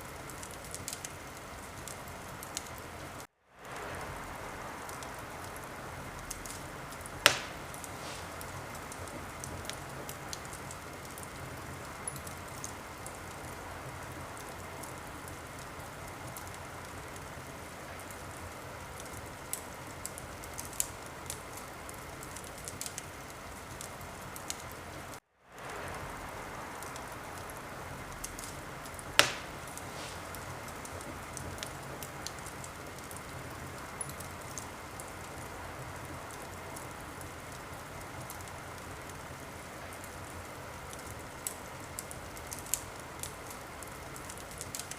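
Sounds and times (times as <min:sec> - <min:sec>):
fire hiss: 0:00.0 - 0:44.9
wood fire crackling: 0:00.0 - 0:44.9
fire pops: 0:00.2 - 0:17.4, 0:18.0 - 0:39.2, 0:40.9 - 0:44.9.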